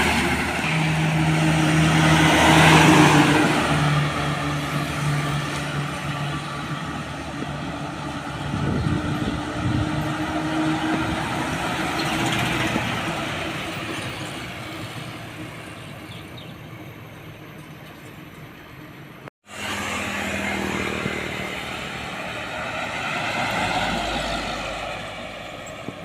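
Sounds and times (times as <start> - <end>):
heavy trucks passing: 0.0 - 26.0.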